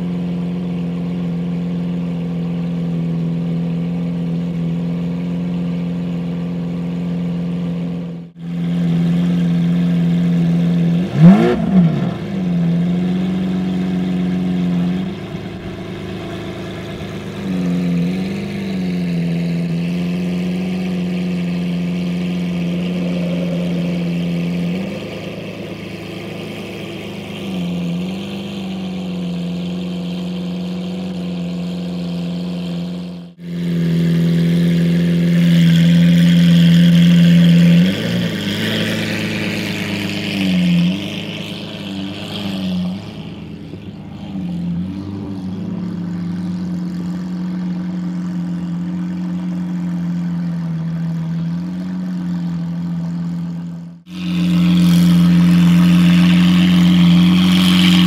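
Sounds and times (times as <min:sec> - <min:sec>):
engine throttle blips: 0:00.0 - 0:58.0
sports car engine idling: 0:00.0 - 0:58.0.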